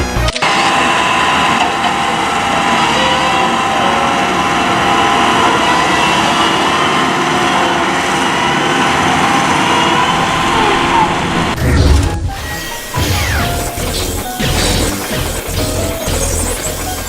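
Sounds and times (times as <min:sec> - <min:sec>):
machine running: 0:00.0 - 0:17.0.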